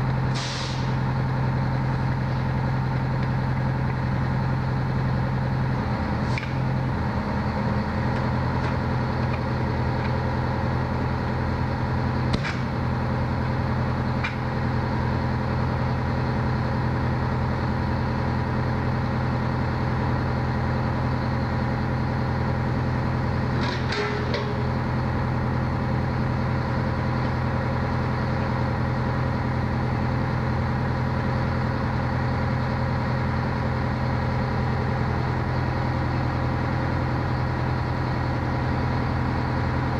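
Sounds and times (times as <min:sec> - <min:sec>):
fire engine idling: 0:00.0 - 0:39.9.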